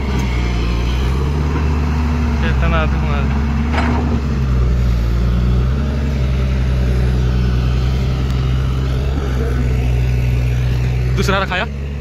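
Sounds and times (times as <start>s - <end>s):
excavator diesel engine droning: 0.0s - 12.0s.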